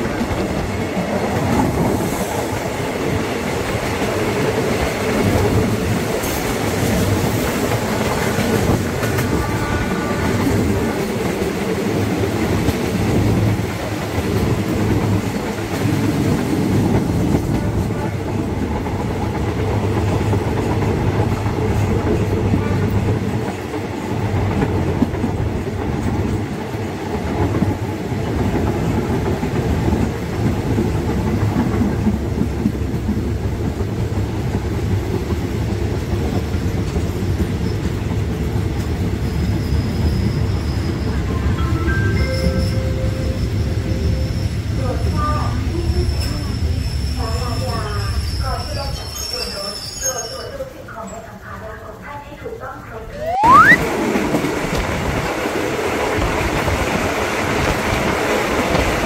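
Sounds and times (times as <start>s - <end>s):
train wheels rumbling on track: 0.0s - 52.9s, 53.8s - 59.0s.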